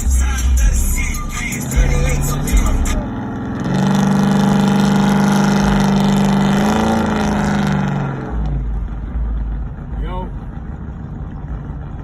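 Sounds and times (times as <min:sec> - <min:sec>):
car engine pulling hard: 0:00.0 - 0:12.0
road noise: 0:00.0 - 0:12.0.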